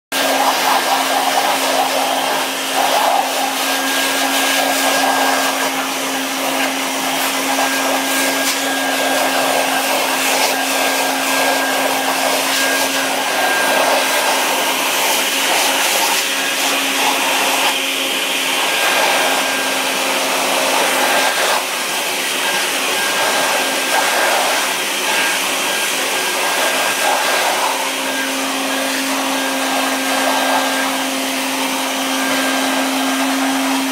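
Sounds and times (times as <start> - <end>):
vacuum motor hum with rushing air: 0.1 - 33.9.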